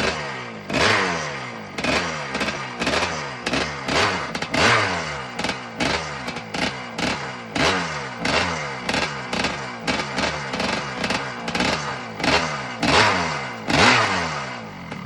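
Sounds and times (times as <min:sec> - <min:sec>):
two-stroke engine throttle blips: 0:00.0 - 0:15.0.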